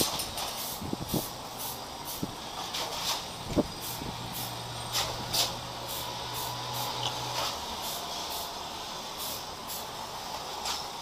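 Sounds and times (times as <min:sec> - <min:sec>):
spray can hissing spurts: 0:00.0 - 0:10.9.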